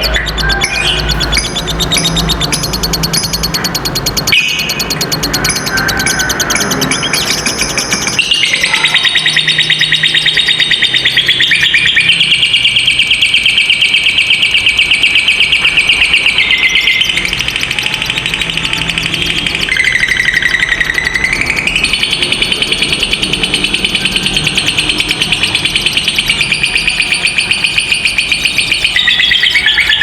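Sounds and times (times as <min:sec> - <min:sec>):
lovebird rattling trill: 0:00.6 - 0:30.0.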